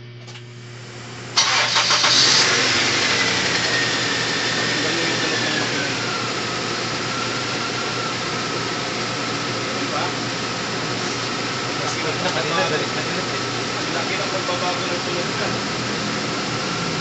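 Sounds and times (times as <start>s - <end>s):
engine whine: 0.0s - 17.0s
car engine starting and idling: 1.4s - 17.0s.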